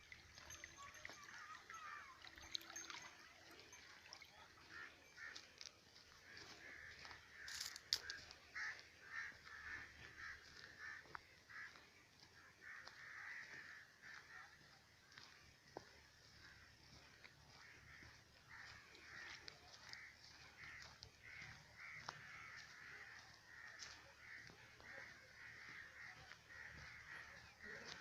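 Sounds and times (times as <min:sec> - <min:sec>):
faint bird calls: 0:00.3 - 0:28.0.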